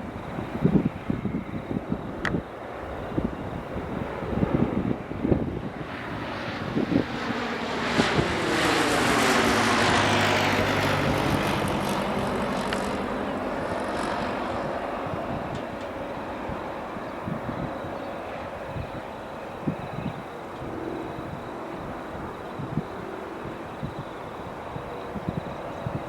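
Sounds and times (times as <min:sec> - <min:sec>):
helicopter flying past: 0:02.5 - 0:26.0.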